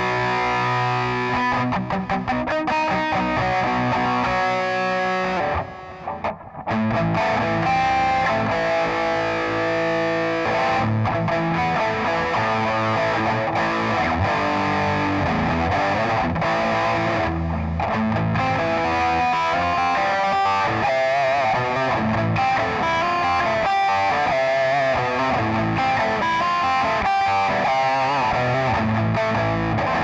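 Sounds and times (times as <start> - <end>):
overdriven electric guitar lead: 0.0 - 30.0.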